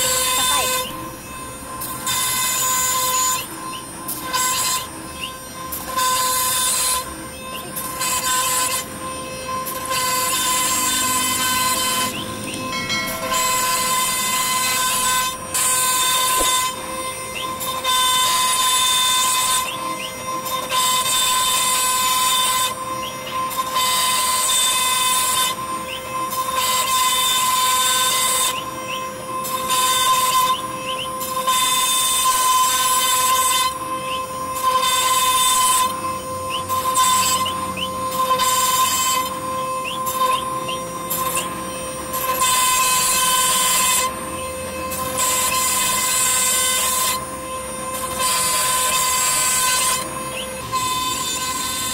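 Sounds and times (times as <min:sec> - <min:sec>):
router spindle whining: 0:00.0 - 0:51.9.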